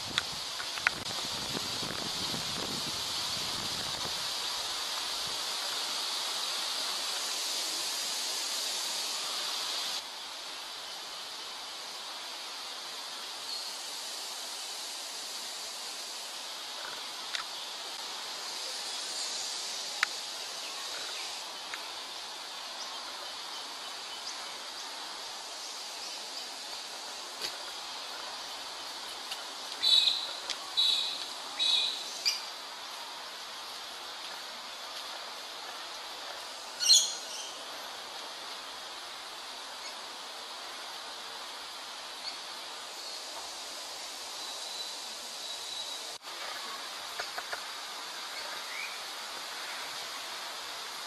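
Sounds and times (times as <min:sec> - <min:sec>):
high-pitched outdoor hiss: 0:00.0 - 0:51.0.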